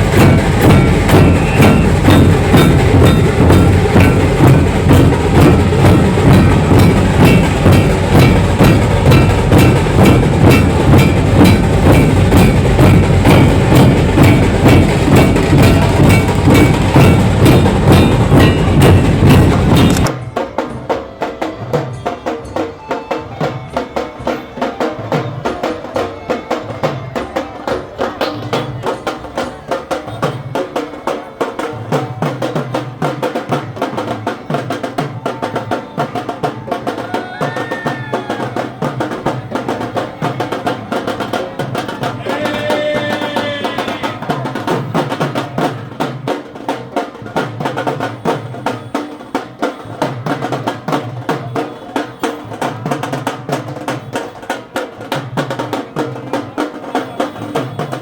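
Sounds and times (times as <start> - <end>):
procession drums beating: 0.0 - 58.0.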